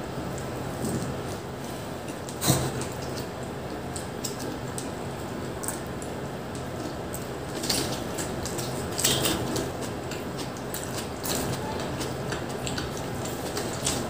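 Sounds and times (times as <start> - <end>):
steady low hum: 0.0 - 14.0
people chewing with mouth smacks: 2.0 - 14.0.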